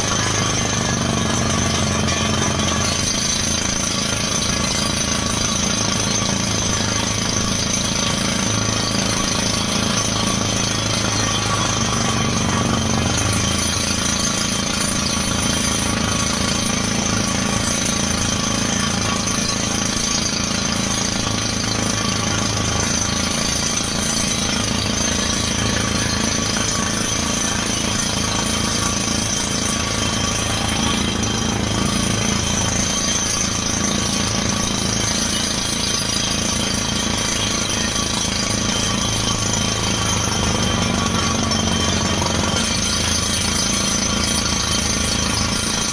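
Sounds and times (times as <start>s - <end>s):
drill hammer pounding: 0.0s - 45.9s
engine and air compressor drone: 0.0s - 45.9s.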